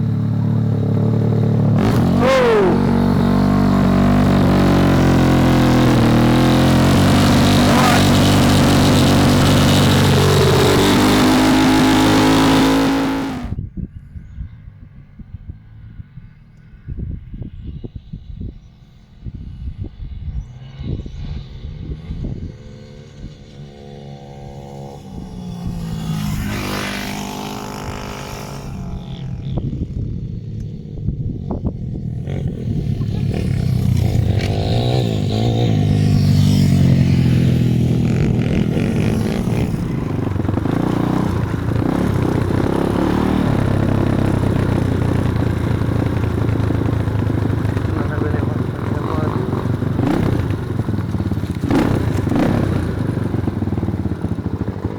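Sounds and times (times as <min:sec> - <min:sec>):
small motorbike engine revving: 0:00.0 - 0:13.6, 0:23.2 - 0:30.7, 0:31.6 - 0:54.9.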